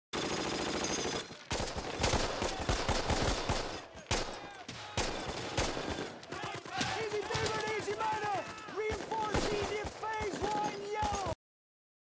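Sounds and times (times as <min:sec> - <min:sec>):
machine-gun and rifle fire: 0:00.2 - 0:11.4.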